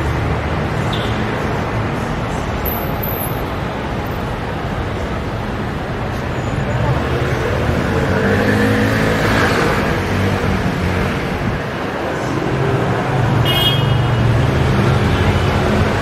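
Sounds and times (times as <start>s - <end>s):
vehicles passing: 0.0s - 16.0s.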